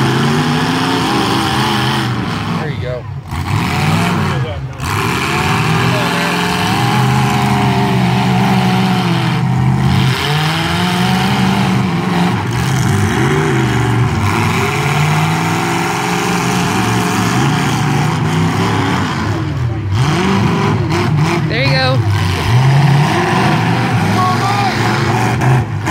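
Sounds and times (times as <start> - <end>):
truck engines revving: 0.0 - 25.9.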